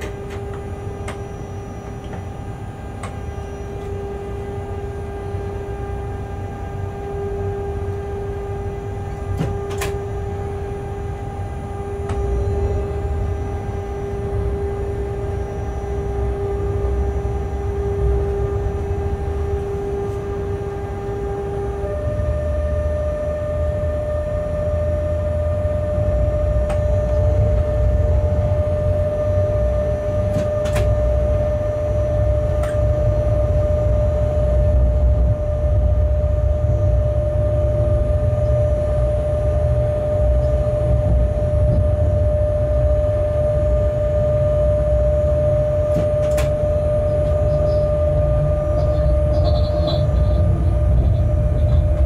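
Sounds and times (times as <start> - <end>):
locomotive rumble: 0.0 - 52.0
steady whine: 0.0 - 52.0.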